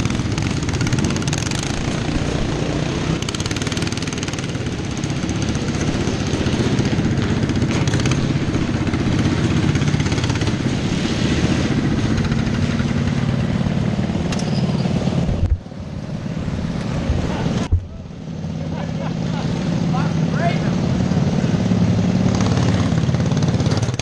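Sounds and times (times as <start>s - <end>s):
racing lawn mower engines: 0.0s - 24.0s.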